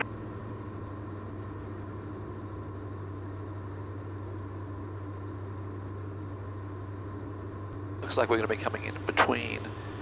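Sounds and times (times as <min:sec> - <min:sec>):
twin propeller engines droning: 0:00.0 - 0:10.0.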